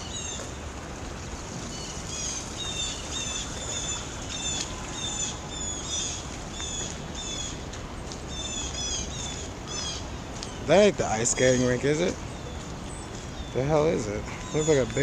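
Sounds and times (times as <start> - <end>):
small birds chirping: 0.0 - 0.6, 1.2 - 15.0
steady background hiss: 0.0 - 15.0.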